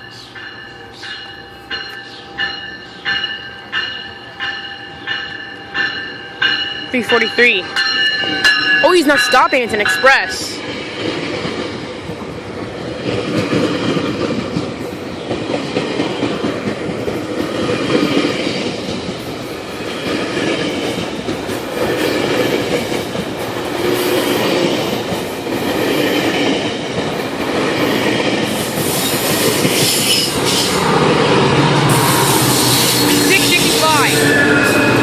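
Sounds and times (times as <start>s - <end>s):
train passing at speed: 0.0s - 35.0s.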